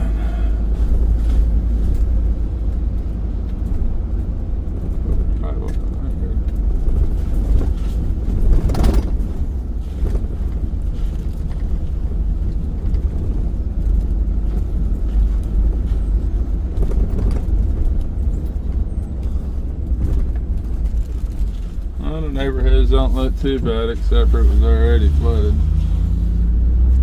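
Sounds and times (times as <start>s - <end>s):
truck engine and road rumble: 0.0s - 27.0s.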